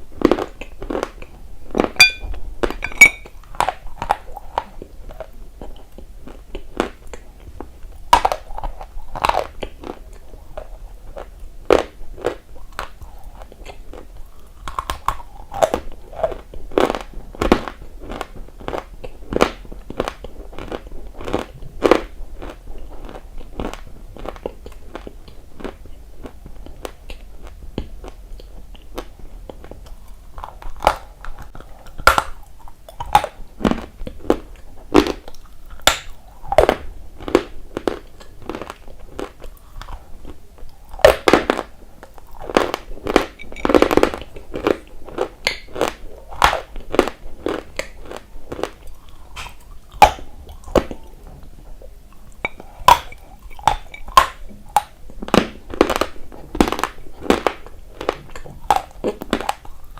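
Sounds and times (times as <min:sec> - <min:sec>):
person chewing crunchy clay: 0:00.0 - 0:59.9.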